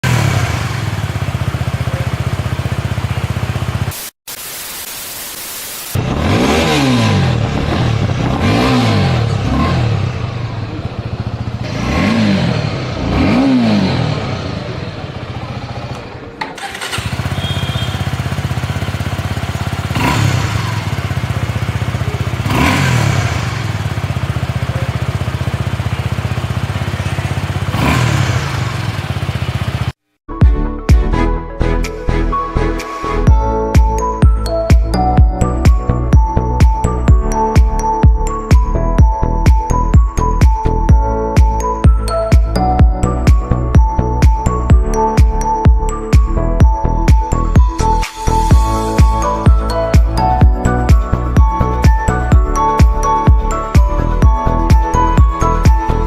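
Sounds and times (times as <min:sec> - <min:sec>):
motorcycle engine idling and revving: 0:00.0 - 0:04.2, 0:06.0 - 0:30.2, 0:33.2 - 0:56.0.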